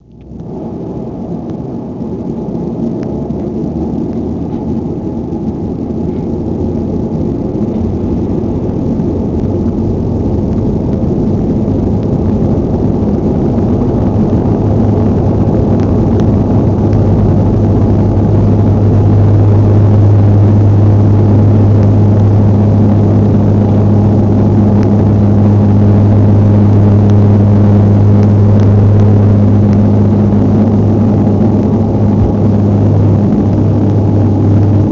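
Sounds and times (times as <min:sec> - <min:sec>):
jet engines spooling up: 0:00.0 - 0:34.9.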